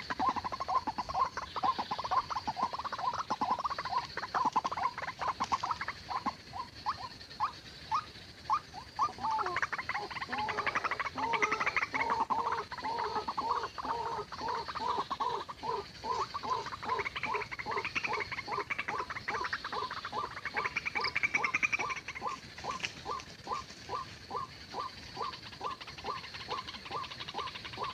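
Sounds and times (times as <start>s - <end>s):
steady high-pitched hiss: 0.0s - 27.9s.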